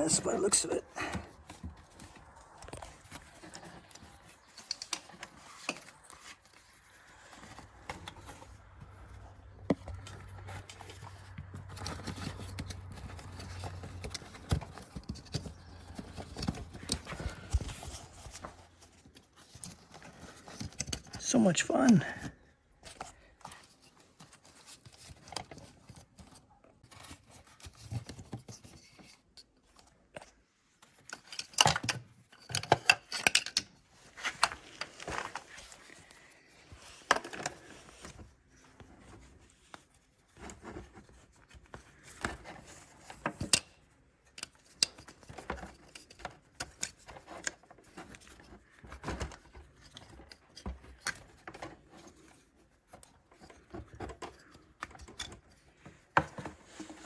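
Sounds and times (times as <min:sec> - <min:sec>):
rustling and clicking of wires: 0:00.0 - 0:57.0.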